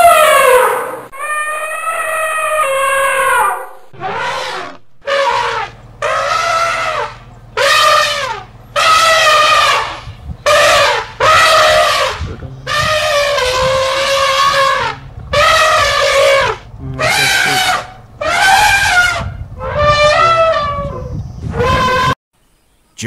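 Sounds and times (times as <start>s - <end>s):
elephant trumpeting: 0.0s - 22.2s.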